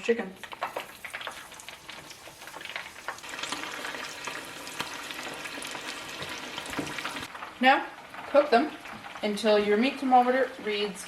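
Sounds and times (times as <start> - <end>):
hot oil sizzling and crackling: 0.4 - 11.0.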